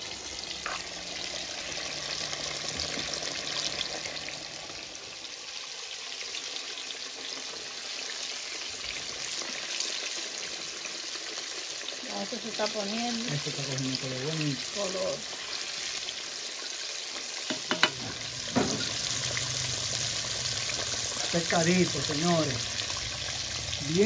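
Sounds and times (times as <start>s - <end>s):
fish frying in hot oil: 0.0s - 24.0s.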